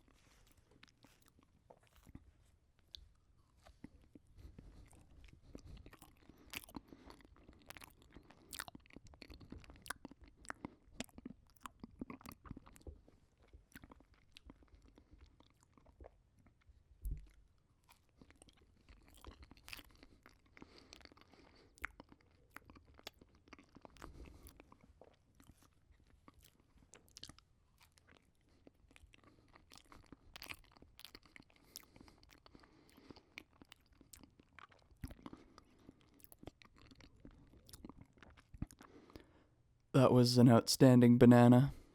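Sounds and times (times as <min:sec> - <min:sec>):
person chewing: 0:00.0 - 0:39.3.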